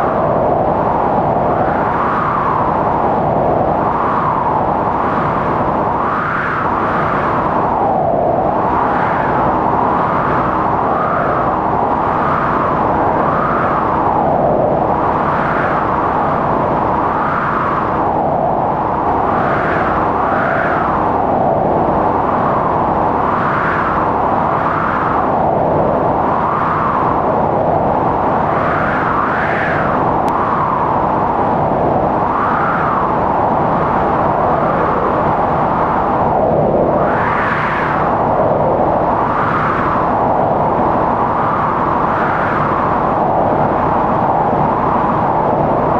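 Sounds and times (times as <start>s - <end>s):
strong wind howling: 0.0s - 45.9s.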